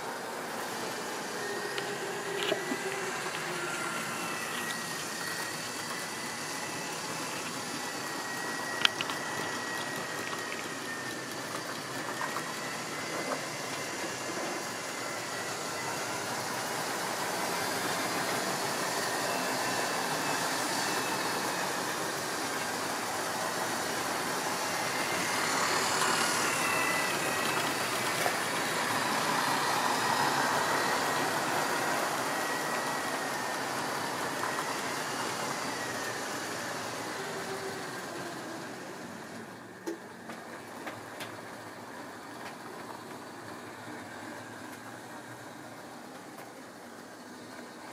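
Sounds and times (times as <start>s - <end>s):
model train motor whine: 0.0s - 47.9s
wheels rolling on track: 0.0s - 47.9s.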